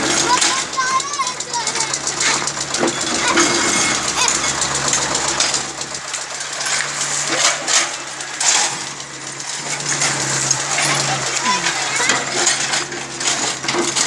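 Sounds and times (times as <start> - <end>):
diesel engine humming: 0.0 - 14.0
stone and rubble clinking: 0.0 - 14.0.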